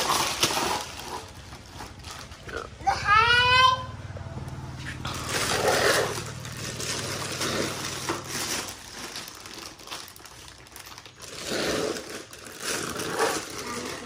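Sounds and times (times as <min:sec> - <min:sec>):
plastic bags rustling: 0:00.0 - 0:02.8, 0:05.0 - 0:14.0.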